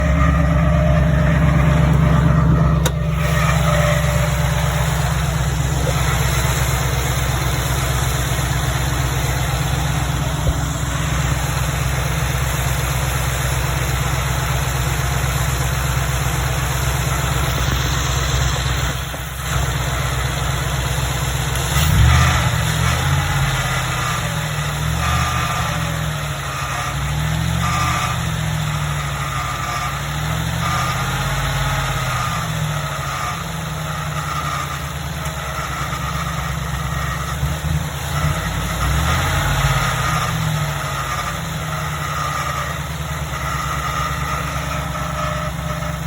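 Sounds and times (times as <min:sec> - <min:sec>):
grinding screeching noise: 0:00.0 - 0:14.6, 0:21.7 - 0:46.0
pickup engine rumbling: 0:00.0 - 0:46.0.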